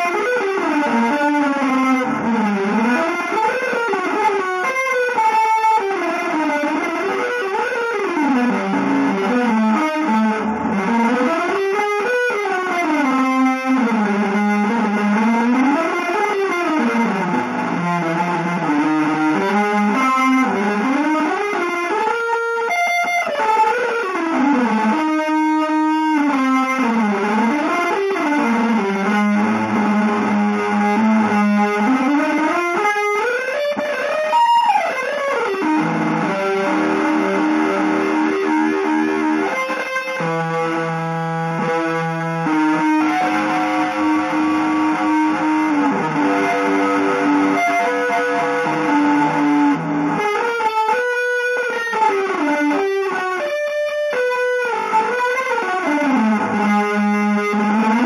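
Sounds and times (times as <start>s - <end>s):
electric guitar gliding notes: 0.0s - 58.0s.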